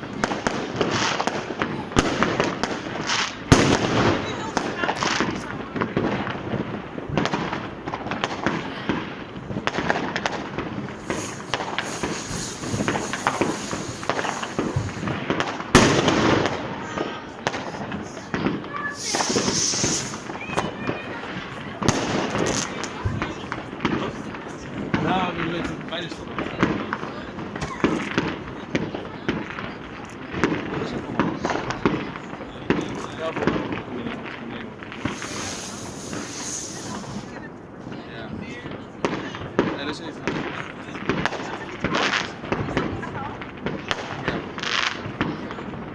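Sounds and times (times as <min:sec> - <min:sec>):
fireworks and firecrackers banging: 0:00.0 - 0:45.9.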